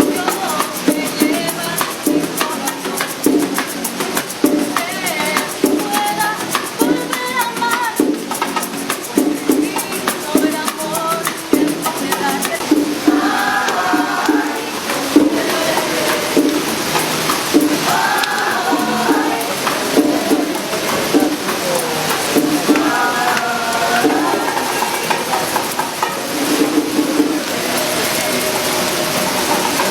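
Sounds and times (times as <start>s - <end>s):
latin music with steady beat: 0.0s - 29.9s
shaker rattling: 0.0s - 29.9s.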